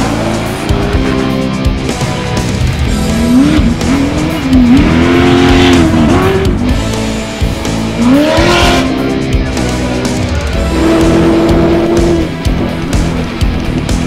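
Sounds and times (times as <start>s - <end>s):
background music: 0.0s - 14.0s
race car engine revving: 0.0s - 14.0s.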